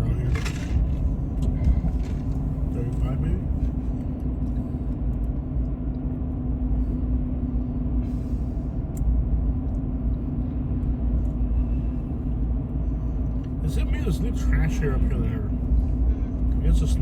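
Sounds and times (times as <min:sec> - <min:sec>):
car road rumble: 0:00.0 - 0:17.0
constant hum: 0:00.0 - 0:17.0.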